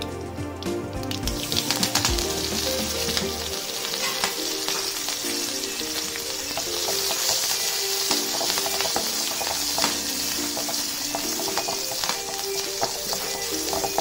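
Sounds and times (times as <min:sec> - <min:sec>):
food sizzling in hot oil: 0:00.0 - 0:14.0
light background music: 0:00.0 - 0:14.0.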